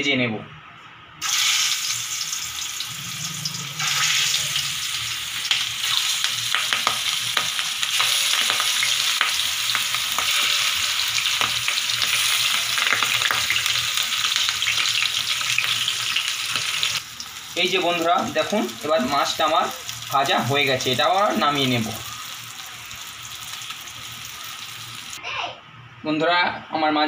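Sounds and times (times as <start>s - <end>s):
fish sizzling in hot oil: 1.2s - 25.2s.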